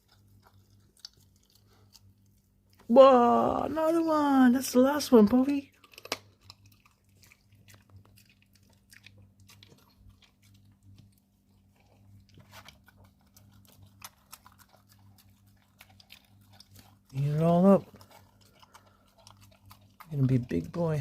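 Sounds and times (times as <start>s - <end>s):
puppy chewing bone: 0.0s - 2.9s, 4.8s - 21.0s.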